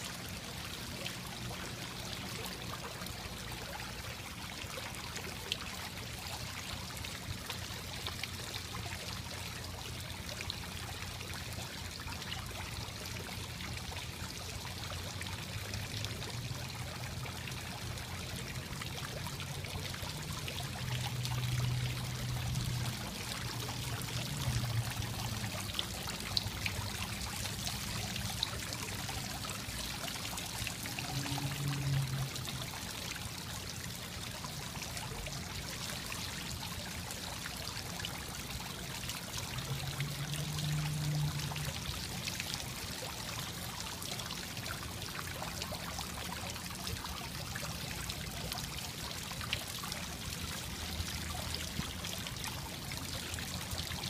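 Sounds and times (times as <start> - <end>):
fountain water splashing and trickling: 0.0 - 54.0.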